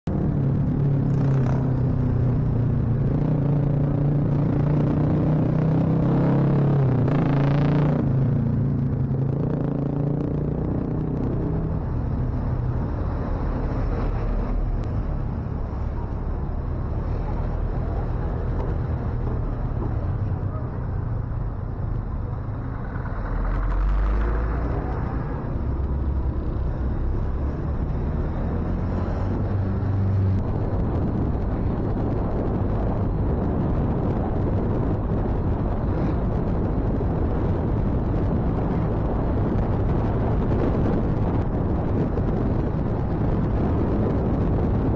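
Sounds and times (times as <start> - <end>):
motorcycle engine rumble: 0.1 - 44.9
wind on microphone: 0.1 - 44.9.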